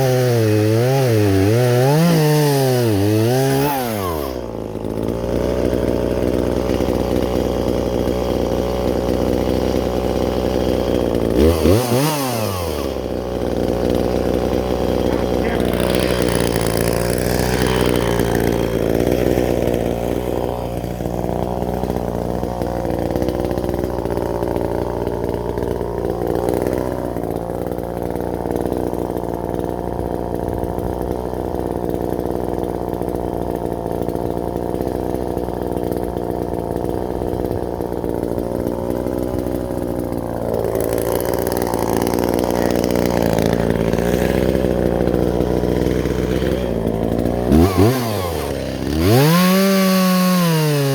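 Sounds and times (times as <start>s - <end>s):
chainsaw cutting: 0.0s - 50.9s.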